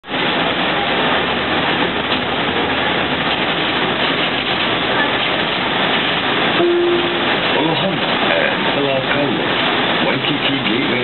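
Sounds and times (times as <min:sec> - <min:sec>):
bus engine: 0:00.0 - 0:11.0
road noise: 0:00.0 - 0:11.0.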